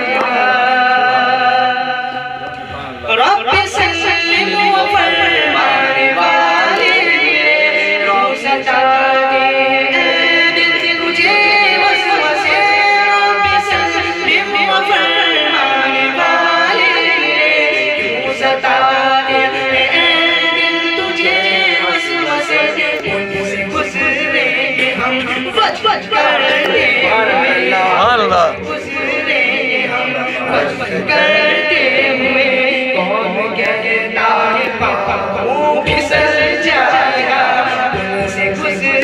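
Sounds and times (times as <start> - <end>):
man singing unaccompanied: 3.0 - 39.0.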